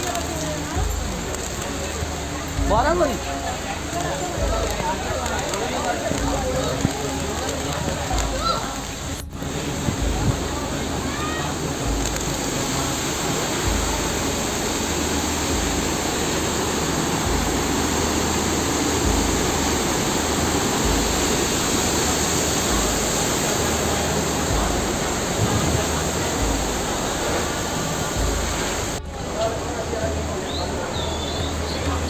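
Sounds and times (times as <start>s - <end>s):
heavy rain downpour: 0.0s - 32.0s
water running off: 0.0s - 32.0s.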